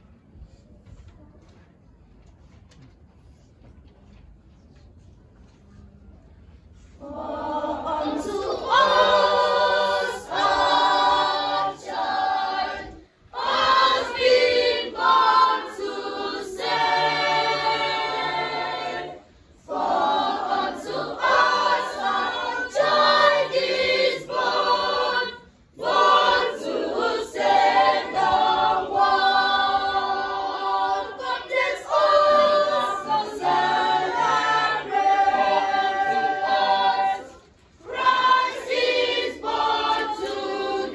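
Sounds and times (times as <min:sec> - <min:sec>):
youth choir singing: 0:07.0 - 0:40.9.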